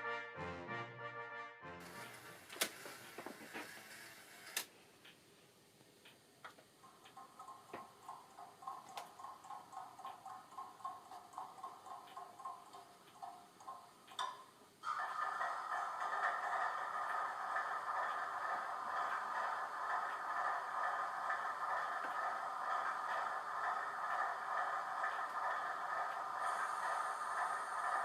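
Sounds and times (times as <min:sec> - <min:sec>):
model locomotive engine sound: 0:01.8 - 0:04.7, 0:06.8 - 0:28.0.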